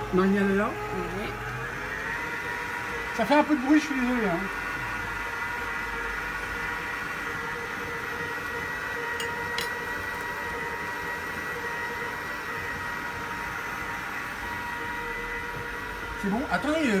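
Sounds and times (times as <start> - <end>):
kitchen fan whirring: 0.0 - 17.0.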